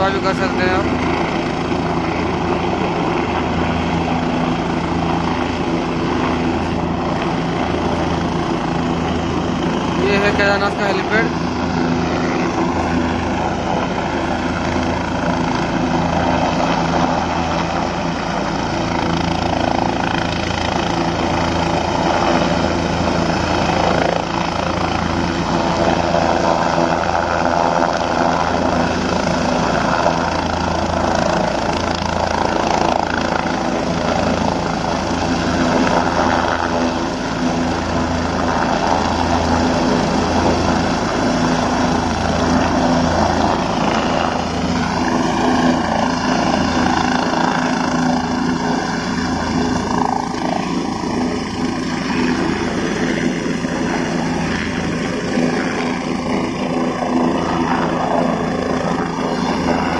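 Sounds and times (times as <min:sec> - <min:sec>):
helicopter rotor beating: 0:00.0 - 0:59.9
turbine engine whine: 0:00.0 - 0:59.9.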